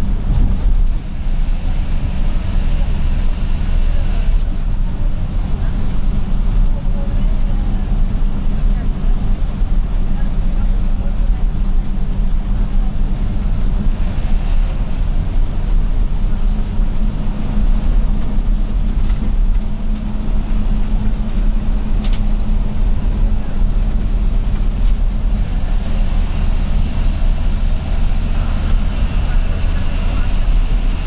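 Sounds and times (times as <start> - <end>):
bus diesel engine drone: 0.0 - 31.0
road noise: 0.0 - 31.0.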